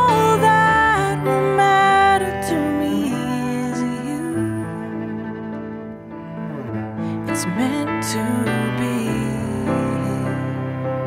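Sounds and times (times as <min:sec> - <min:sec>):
slow love ballad: 0:00.0 - 0:11.0.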